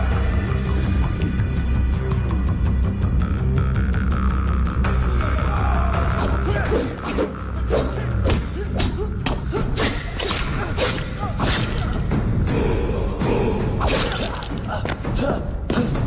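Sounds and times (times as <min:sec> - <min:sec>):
low tense film score: 0:00.0 - 0:16.0.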